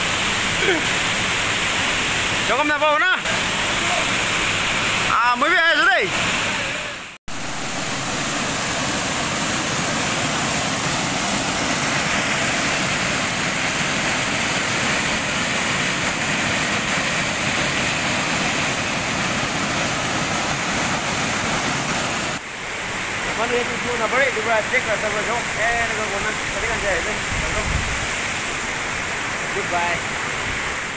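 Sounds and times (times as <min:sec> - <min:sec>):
waterfall pouring into pool: 0:00.0 - 0:30.9.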